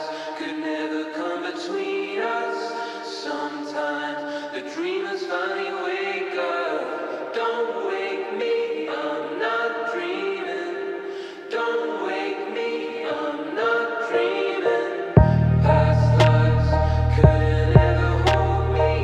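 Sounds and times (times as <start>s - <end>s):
choir singing long notes: 0.0s - 19.0s.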